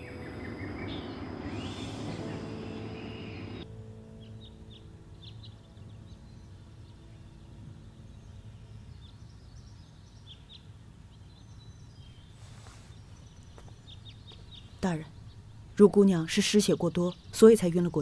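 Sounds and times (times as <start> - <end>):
faint birds chirping: 0.0 - 18.0
low steady background rumble: 0.0 - 18.0.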